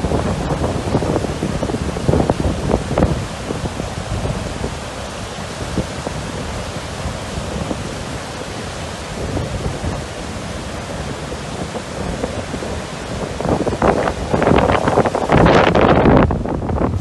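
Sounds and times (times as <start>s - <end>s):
heavy rain: 0.0s - 17.0s
wind buffeting microphone: 0.0s - 17.0s.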